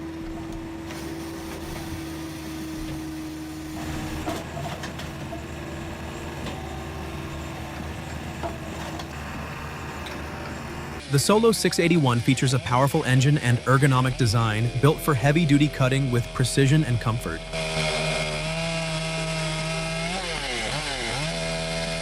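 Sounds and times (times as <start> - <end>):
engine and hydraulic drone: 0.0 - 22.0.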